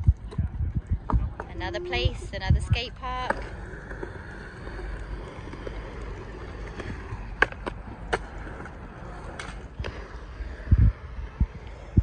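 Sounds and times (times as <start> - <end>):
scooter and skateboard wheels rolling: 0.0 - 12.0.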